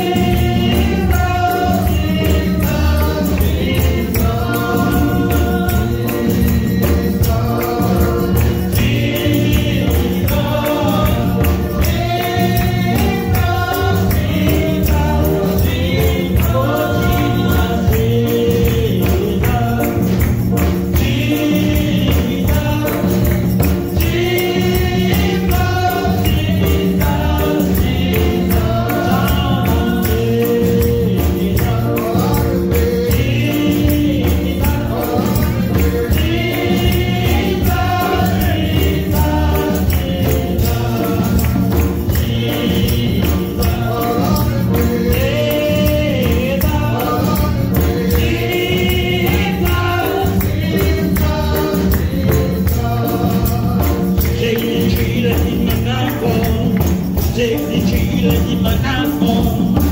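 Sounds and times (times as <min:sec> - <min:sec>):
tambourine shaking: 0:00.0 - 0:59.9
voices singing gospel over beat: 0:00.0 - 0:59.9.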